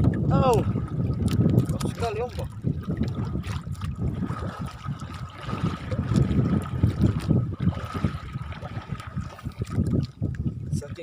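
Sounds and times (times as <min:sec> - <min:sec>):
rough sea slapping boat hull: 0:00.0 - 0:11.0.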